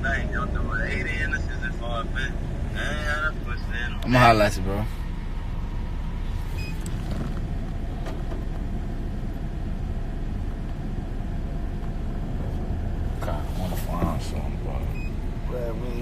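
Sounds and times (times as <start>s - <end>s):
car rumble from inside cabin: 0.0s - 16.0s.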